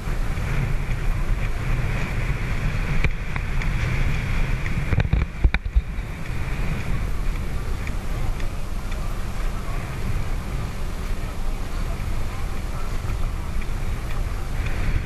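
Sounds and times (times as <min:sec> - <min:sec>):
low rumble: 0:00.0 - 0:15.0
water rushing past boat: 0:00.0 - 0:15.0
wind buffeting microphone: 0:00.0 - 0:15.0.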